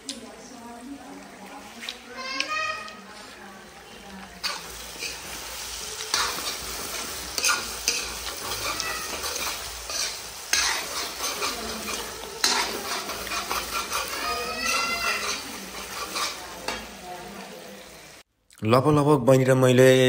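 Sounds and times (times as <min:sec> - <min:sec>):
pork sizzling in a metal pan: 0:00.0 - 0:18.3
metal spoon scraping a pan: 0:01.5 - 0:17.6.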